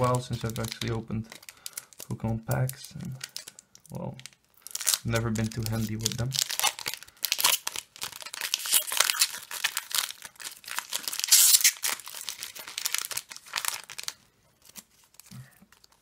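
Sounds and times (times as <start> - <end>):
foil wrapper tearing and crinkling: 0.0 - 3.6, 4.2 - 16.0.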